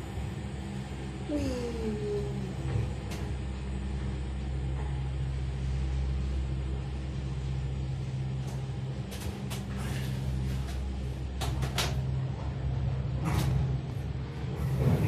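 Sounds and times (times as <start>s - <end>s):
gondola lift mechanical hum: 0.0s - 15.0s.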